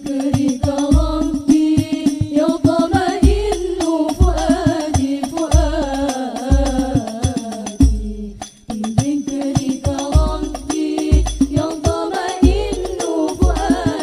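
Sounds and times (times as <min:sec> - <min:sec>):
frame drums played by hand: 0:00.0 - 0:14.0
women singing together: 0:00.0 - 0:14.0.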